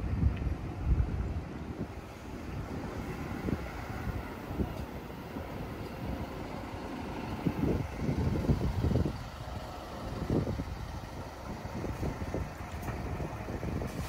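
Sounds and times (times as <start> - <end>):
coach engine and tyre rumble: 0.0 - 14.0.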